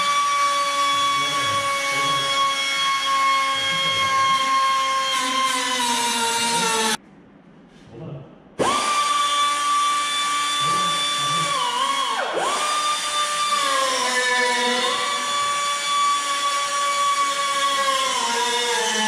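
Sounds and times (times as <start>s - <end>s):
cut-off tool whining: 0.0s - 7.0s, 8.6s - 19.0s.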